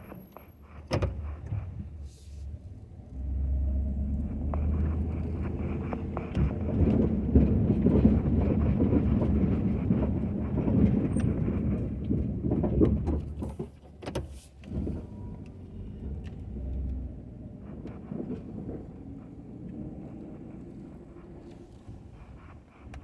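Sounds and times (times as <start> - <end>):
pickup engine humming: 0.1 - 12.5, 14.6 - 23.0.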